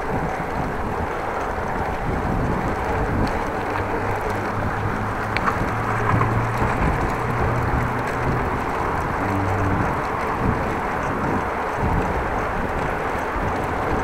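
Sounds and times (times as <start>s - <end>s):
low traffic hum: 0.0s - 14.0s
tyre and road noise: 0.0s - 14.0s
wind on microphone: 0.0s - 14.0s.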